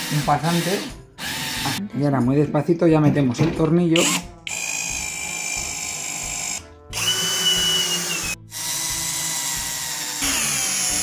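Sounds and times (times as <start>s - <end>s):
cordless drill whining: 0.0s - 1.8s, 4.0s - 11.0s.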